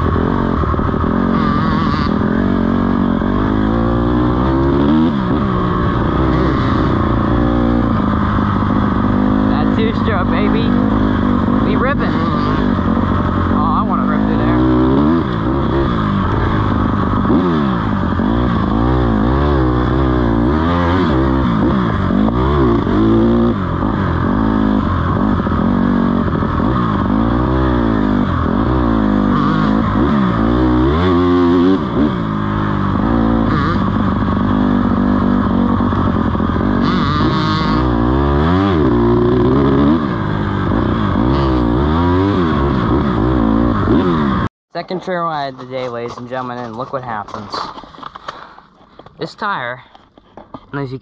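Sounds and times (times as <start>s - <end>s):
dirt bike engine revving: 0.0s - 44.5s.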